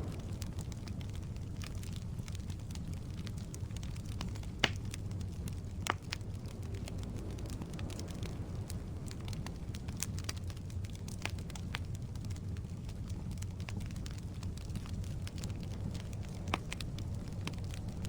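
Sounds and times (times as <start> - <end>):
fire crackling and popping: 0.0 - 18.0
fire rumbling: 0.0 - 18.0.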